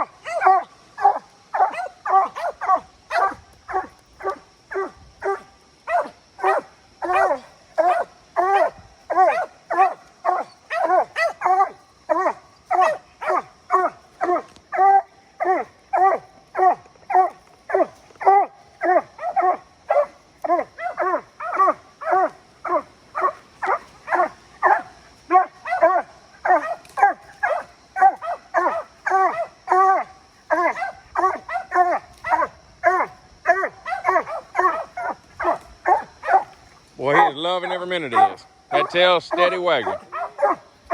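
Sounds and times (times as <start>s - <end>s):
dog barking: 0.0s - 36.6s, 37.6s - 40.9s.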